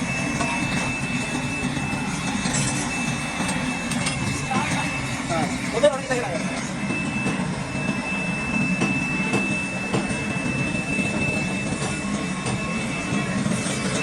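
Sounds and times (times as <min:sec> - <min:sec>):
low machine hum: 0:00.0 - 0:14.0
machinery high whine: 0:00.0 - 0:14.0.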